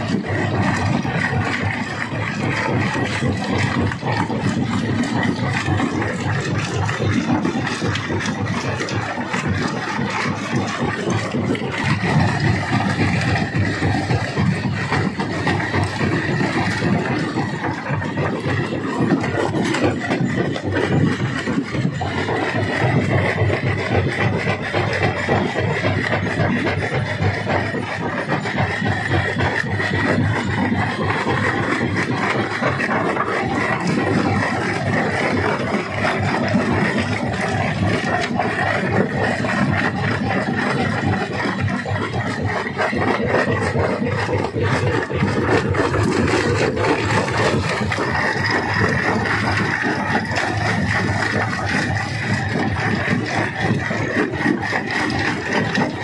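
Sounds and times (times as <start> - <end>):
rock crusher grinding stone: 0.0 - 56.0.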